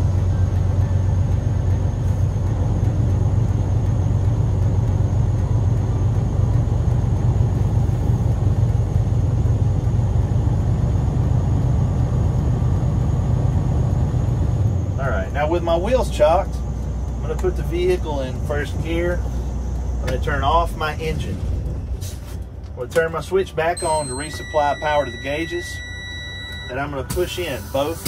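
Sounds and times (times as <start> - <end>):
diesel truck engine revving steadily: 0.0 - 28.0.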